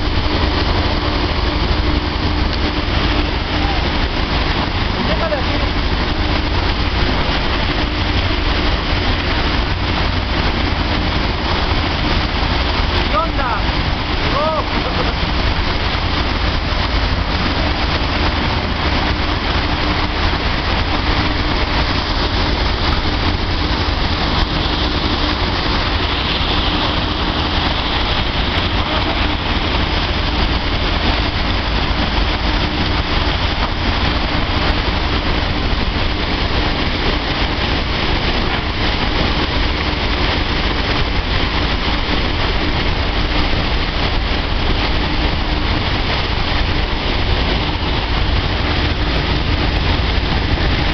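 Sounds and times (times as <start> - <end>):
dryer running: 0.0 - 50.9.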